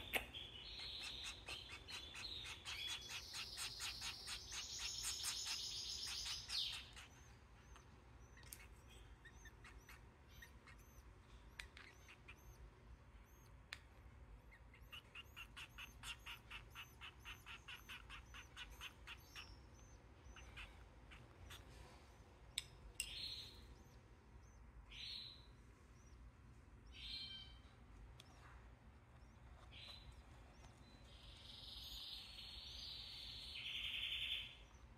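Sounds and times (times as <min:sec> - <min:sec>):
nestlings cheeping: 0:00.0 - 0:34.9.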